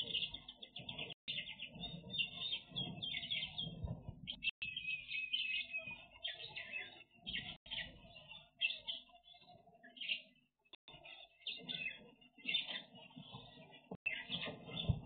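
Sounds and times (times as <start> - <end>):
finches chirping and chattering: 0.0 - 15.0.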